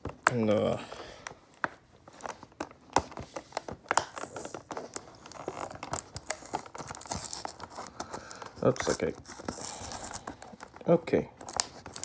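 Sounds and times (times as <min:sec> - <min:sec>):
packaging crinkling and tearing: 0:02.0 - 0:12.0.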